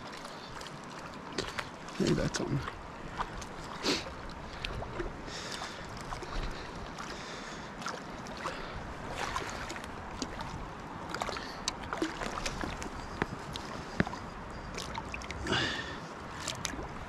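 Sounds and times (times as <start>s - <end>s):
mountain river running: 0.0s - 17.0s
small water splashes: 0.0s - 17.0s.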